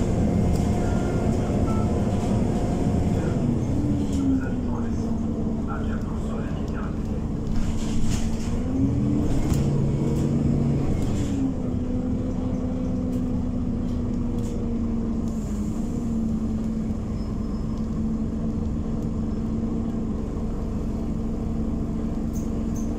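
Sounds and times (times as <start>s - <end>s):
bus engine running: 0.0s - 22.9s.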